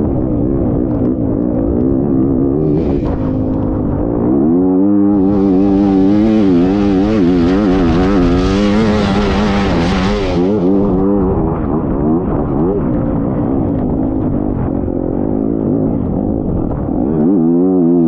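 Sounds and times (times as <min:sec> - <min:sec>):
motorcycle engine revving hard: 0:00.0 - 0:18.0.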